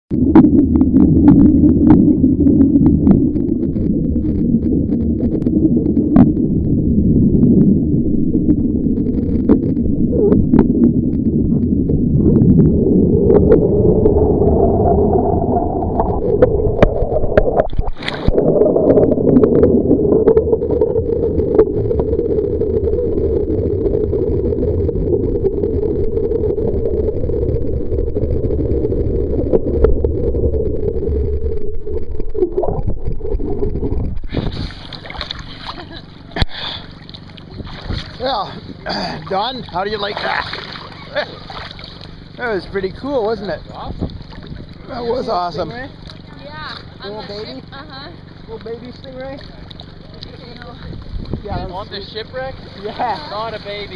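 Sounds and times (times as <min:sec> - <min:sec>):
underwater rushing and bubbling: 0:00.1 - 0:53.9.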